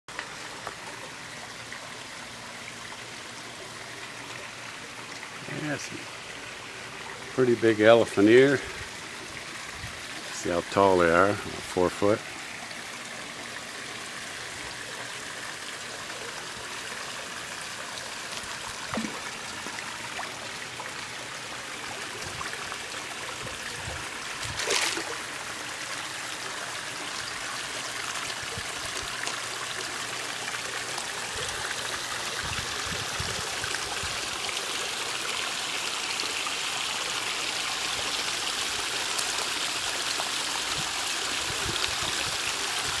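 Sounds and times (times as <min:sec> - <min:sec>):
waterfall splashing into pond: 0:00.1 - 0:43.0.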